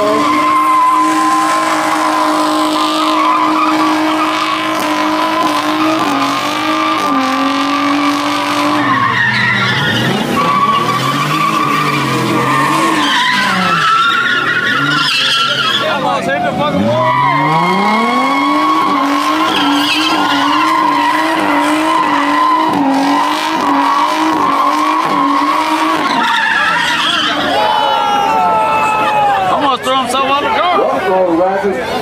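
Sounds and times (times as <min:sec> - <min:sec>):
car engine revving: 0:00.0 - 0:27.6
tyres screeching: 0:00.0 - 0:29.7.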